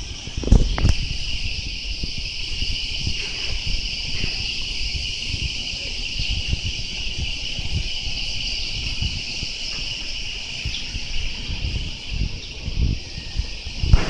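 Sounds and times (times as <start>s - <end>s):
cicadas buzzing: 0.0s - 14.0s
low rumble on microphone: 0.0s - 14.0s.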